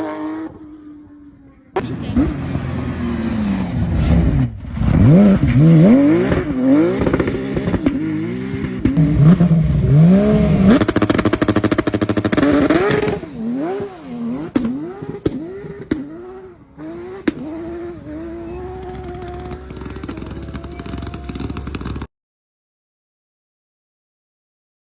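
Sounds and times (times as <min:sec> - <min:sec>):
car engine revving: 0:00.0 - 0:22.1
exhaust cracks: 0:01.7 - 0:22.1.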